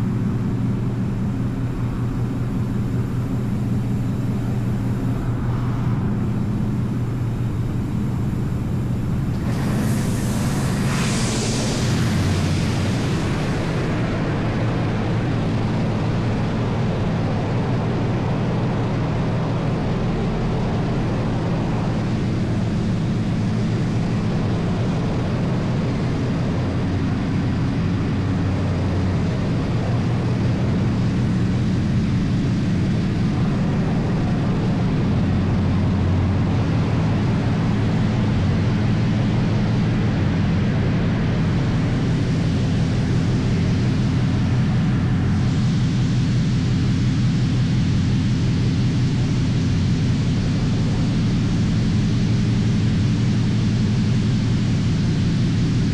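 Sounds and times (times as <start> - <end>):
car wash drone with hiss: 0.0 - 55.9.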